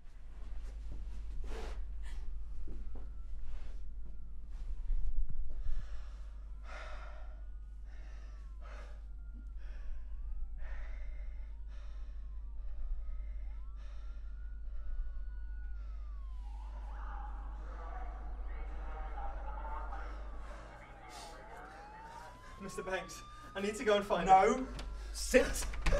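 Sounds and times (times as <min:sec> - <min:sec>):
distant sirens wailing: 0:00.0 - 0:25.9
heavy shaky breaths: 0:00.7 - 0:03.8, 0:05.5 - 0:25.9.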